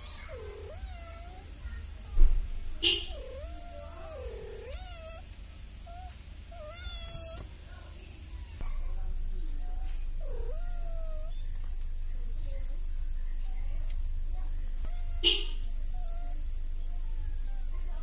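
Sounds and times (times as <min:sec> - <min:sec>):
kittens mewing: 0:00.0 - 0:02.1, 0:02.7 - 0:07.5, 0:08.5 - 0:18.0.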